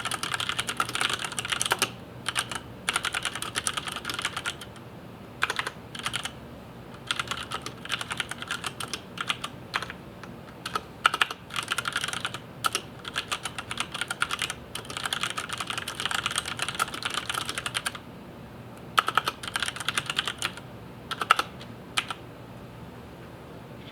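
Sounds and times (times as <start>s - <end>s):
typing on mechanical keyboard: 0.0s - 4.8s, 5.4s - 6.4s, 7.0s - 10.0s, 10.6s - 18.0s, 19.0s - 22.2s.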